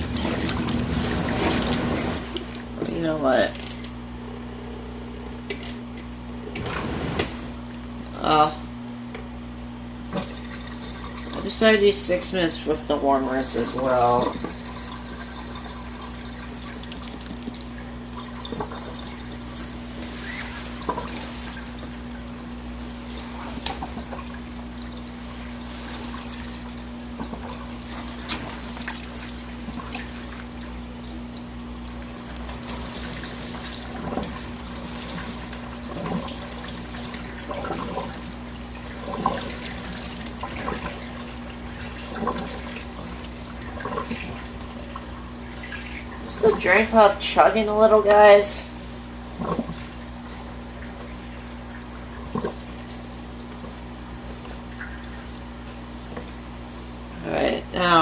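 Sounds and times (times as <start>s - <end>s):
water sloshing and splashing: 0.0s - 4.0s, 5.5s - 7.9s, 10.0s - 58.0s
washing machine motor hum: 0.0s - 58.0s.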